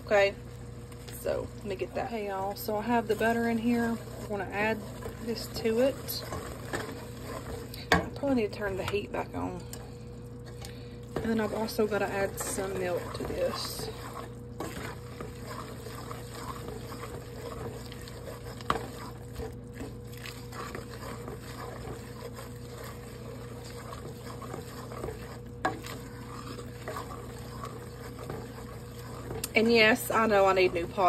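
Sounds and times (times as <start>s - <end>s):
spoon stirring macaroni: 0.1s - 31.0s.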